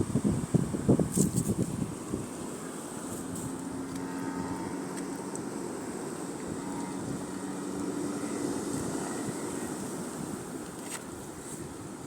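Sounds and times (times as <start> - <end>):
faint engine hum: 0.0 - 12.0
wind: 0.0 - 12.0.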